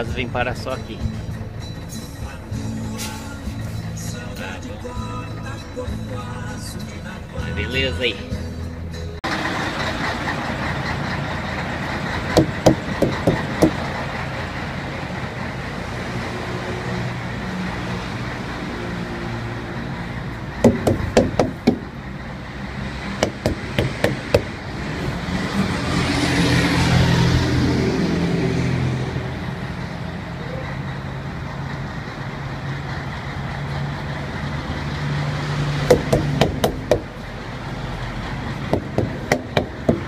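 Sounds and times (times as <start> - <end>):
diesel truck engine idling: 0.0 - 40.0
rush of vehicle noise: 0.0 - 40.0.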